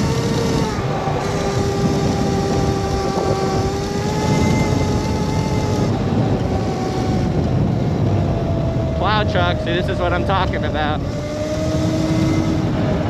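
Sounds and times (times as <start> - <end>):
electric motor whining: 0.0 - 13.0
wind and riding noise: 0.0 - 13.0.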